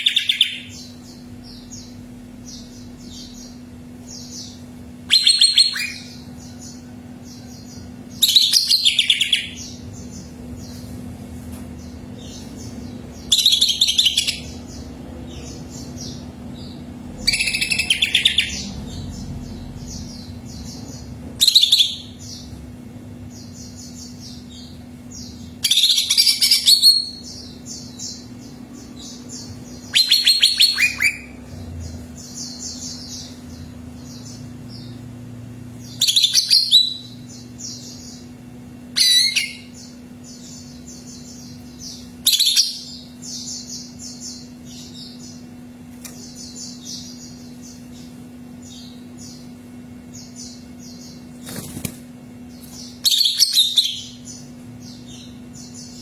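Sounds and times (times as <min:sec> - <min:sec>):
high chirping: 0:00.0 - 0:10.4, 0:11.8 - 0:22.6, 0:23.3 - 0:35.0, 0:35.8 - 0:45.5, 0:52.6 - 0:56.0
bird singing loud song phrases: 0:00.0 - 0:10.9, 0:11.7 - 0:56.0
steady low hum: 0:00.0 - 0:56.0.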